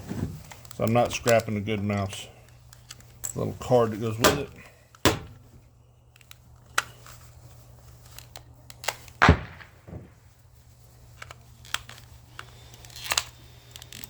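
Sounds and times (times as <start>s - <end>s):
small hard plastic parts clacking: 0.3s - 9.2s, 11.1s - 14.0s.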